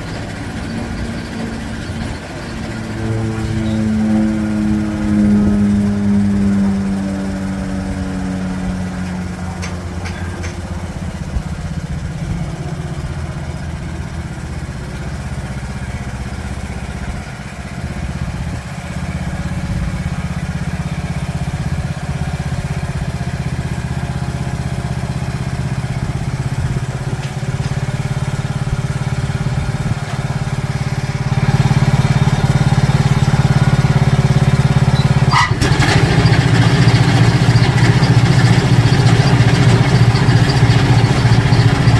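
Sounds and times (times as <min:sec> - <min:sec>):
riding lawn mower engine running: 0:00.0 - 0:41.9.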